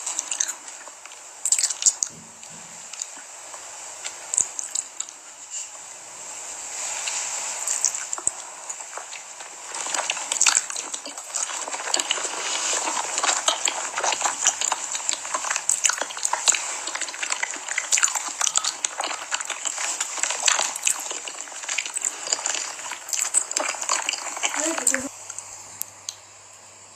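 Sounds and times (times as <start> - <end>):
food crackling: 0.0 - 26.7.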